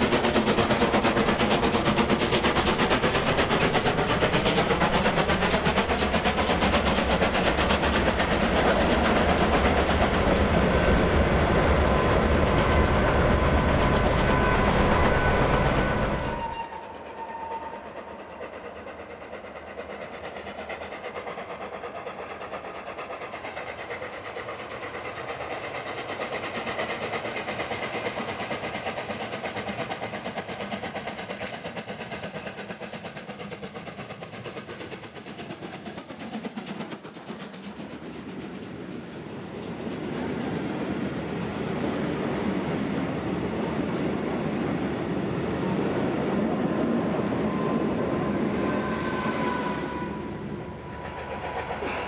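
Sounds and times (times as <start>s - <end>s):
distant steam train approaching: 0.0s - 52.0s
steam train running past: 0.0s - 52.0s.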